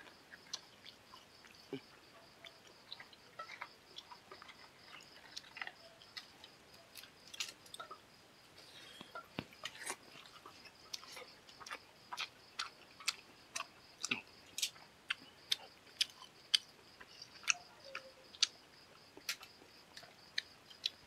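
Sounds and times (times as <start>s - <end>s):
wet chewing and lip smacking: 0.0s - 8.0s, 8.6s - 21.0s.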